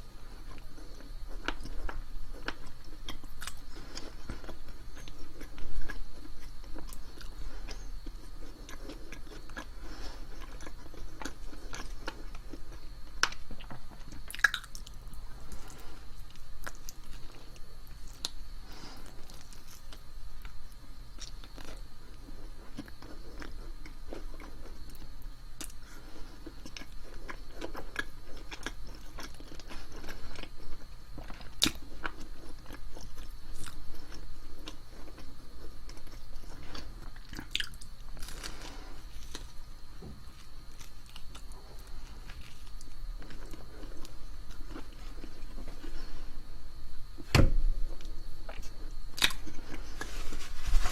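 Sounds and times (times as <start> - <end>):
person chewing crunchy food: 0.0 - 46.4, 47.8 - 50.9.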